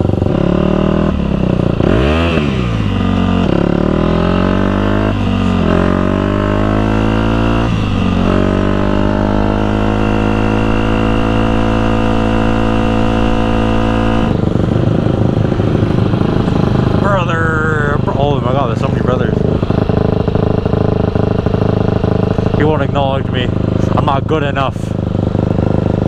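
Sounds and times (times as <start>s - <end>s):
dirt bike engine accelerating: 0.0s - 26.0s.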